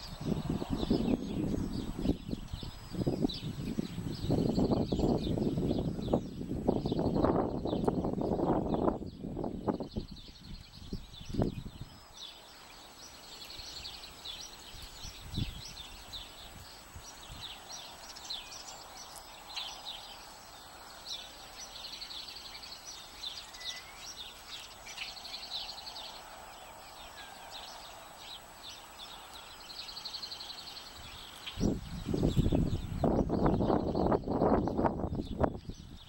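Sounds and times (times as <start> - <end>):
sparrows chirping: 0.0 - 36.0.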